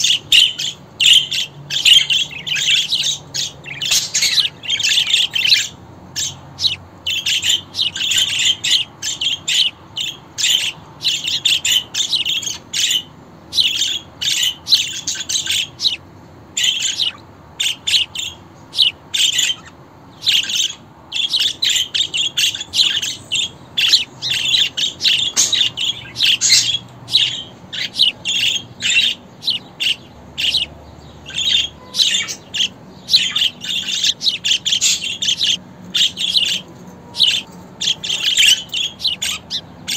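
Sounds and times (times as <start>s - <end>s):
budgerigar chirping: 0.0s - 16.0s, 16.6s - 39.9s.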